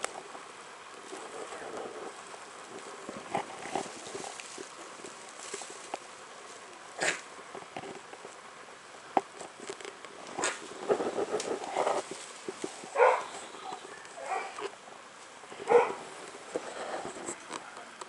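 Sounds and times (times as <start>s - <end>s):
straw bedding rustling: 0.0s - 17.5s.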